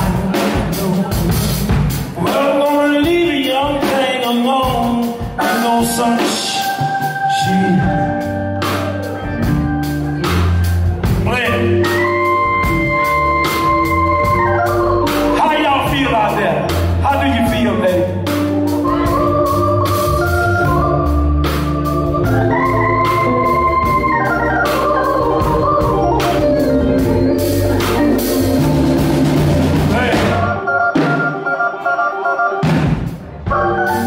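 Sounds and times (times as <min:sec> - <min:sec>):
bass line: 0:00.0 - 0:31.4
drums with cymbal hits: 0:00.0 - 0:31.4, 0:32.6 - 0:34.0
organ holding chords: 0:04.6 - 0:34.0.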